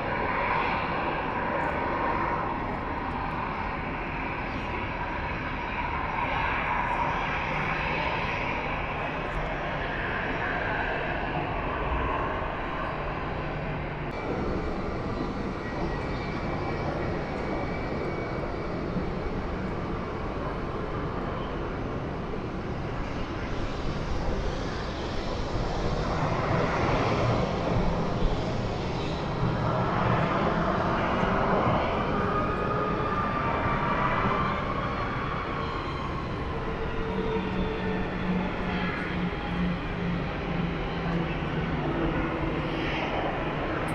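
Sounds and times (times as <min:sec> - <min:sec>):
jet engines rumbling with whine: 0:00.0 - 0:43.9.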